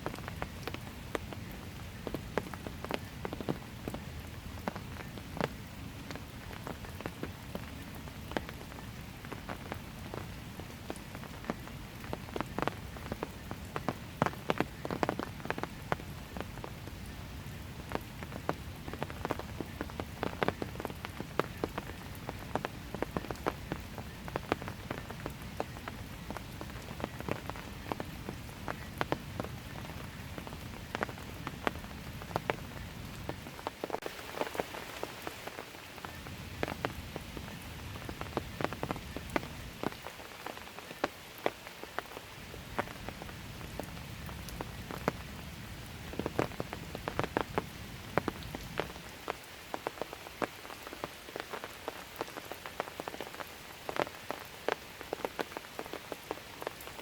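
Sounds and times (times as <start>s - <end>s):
light rain on pavement: 0.0s - 57.0s.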